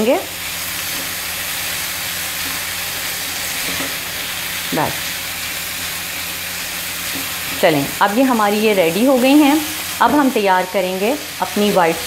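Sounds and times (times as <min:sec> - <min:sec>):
food sizzling in oil in a pan: 0:00.0 - 0:12.0.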